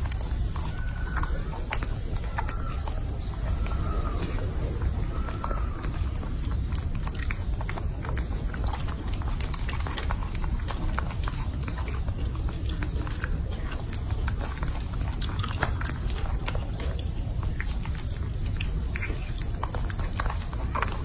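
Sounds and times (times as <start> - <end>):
low rumble: 0.0 - 21.0
monkey chewing wet smacks: 0.0 - 21.0.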